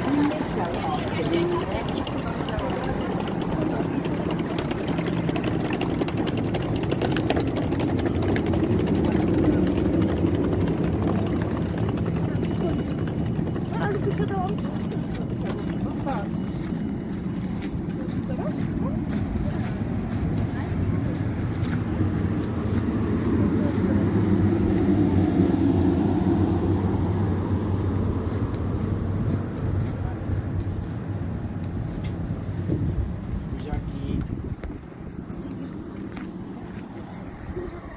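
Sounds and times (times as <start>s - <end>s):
train engine humming: 0.0s - 37.9s.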